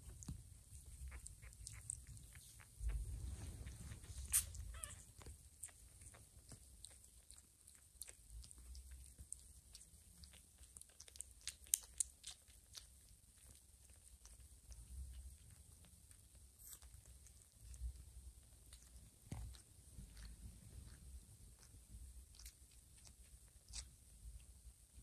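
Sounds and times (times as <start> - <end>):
cat licking and suckling: 0.0 - 25.0.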